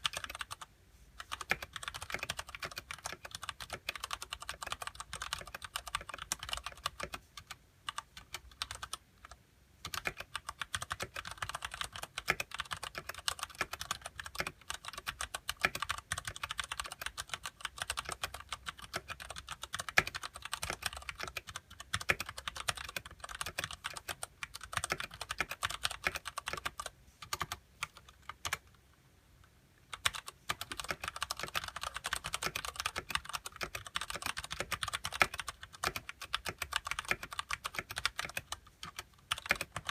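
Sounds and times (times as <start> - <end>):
mechanical keyboard typing: 0.0 - 28.8, 29.9 - 39.9.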